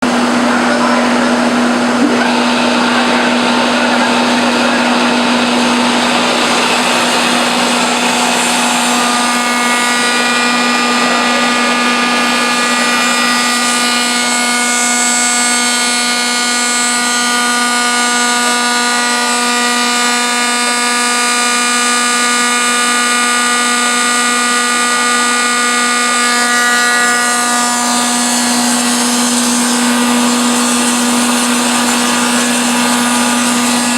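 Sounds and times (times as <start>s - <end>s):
high saw whine: 0.0s - 33.9s
lathe motor hum: 0.0s - 33.9s.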